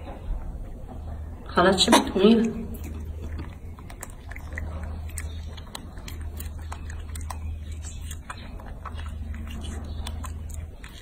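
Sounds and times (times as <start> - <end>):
steady low hum: 0.0 - 11.0
monkey chewing wet smacks: 2.2 - 11.0.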